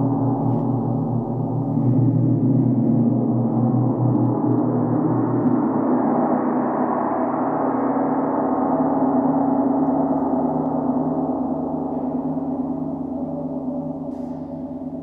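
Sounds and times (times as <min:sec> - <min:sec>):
large gong ringing: 0:00.0 - 0:15.0.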